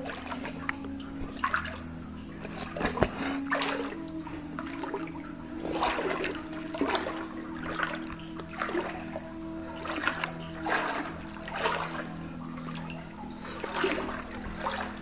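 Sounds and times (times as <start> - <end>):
footsteps wading through water: 0.0 - 15.0.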